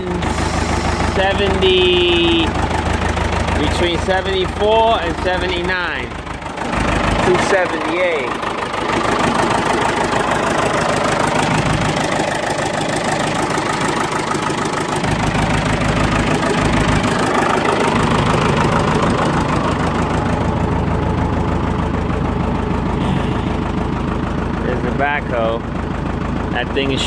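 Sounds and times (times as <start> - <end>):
backhoe diesel engine running: 0.0 - 27.0.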